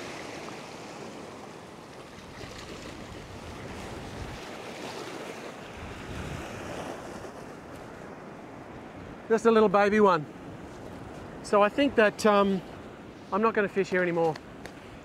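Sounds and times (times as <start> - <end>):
ocean surf washing over rocks: 0.0 - 15.0.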